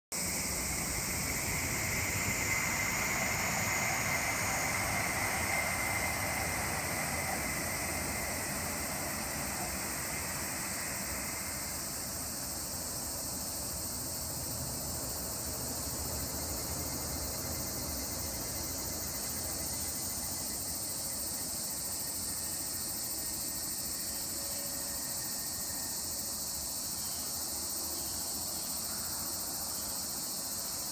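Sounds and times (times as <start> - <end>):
distant train passing: 0.2 - 30.9
insect chirring: 0.2 - 30.9.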